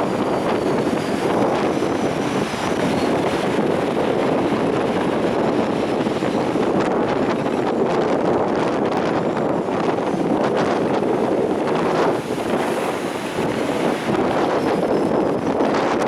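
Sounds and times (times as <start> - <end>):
storm surf on shore: 0.0 - 16.0
storm wind buffeting microphone: 0.0 - 16.0.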